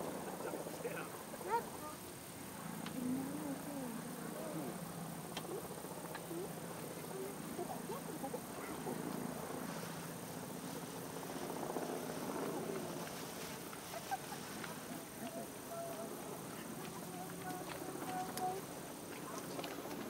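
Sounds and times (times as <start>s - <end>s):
distant crowd chatter: 0.0s - 20.0s
high insect drone: 0.0s - 20.0s.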